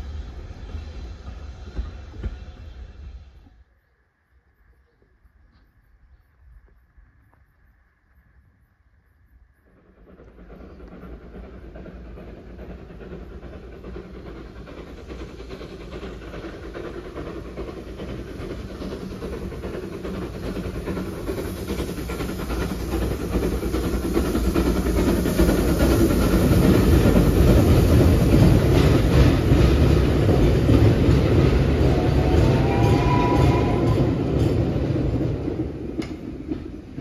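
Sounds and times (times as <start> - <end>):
train running across a bridge: 0.0 - 37.0.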